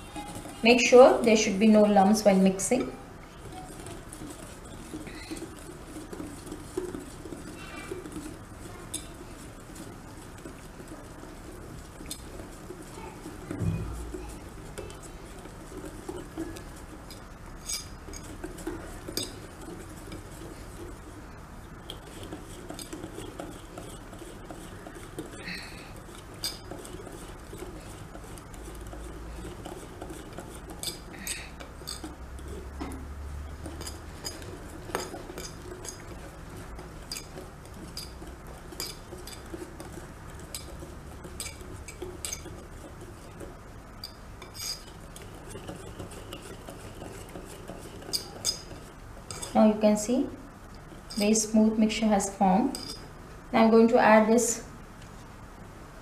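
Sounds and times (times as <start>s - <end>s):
wet stirring of batter: 0.0s - 56.0s
whisk clicking against glass bowl: 2.7s - 21.2s, 21.8s - 49.6s.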